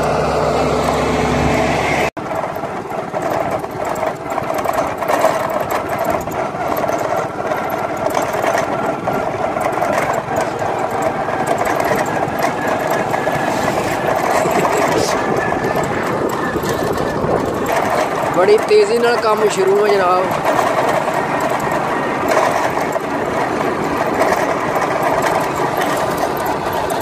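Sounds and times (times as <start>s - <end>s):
road noise: 0.0s - 27.0s
small vehicle engine running: 0.0s - 27.0s
wind: 0.0s - 27.0s.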